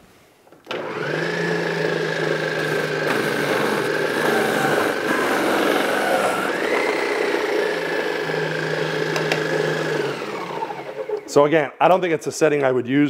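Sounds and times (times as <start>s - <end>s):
blender motor whine: 0.7s - 11.3s.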